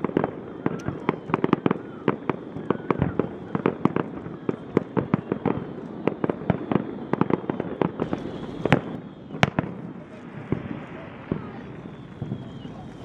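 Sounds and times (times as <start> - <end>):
fireworks bangs and cracks: 0.0 - 13.0
fireworks crackling: 0.0 - 13.0.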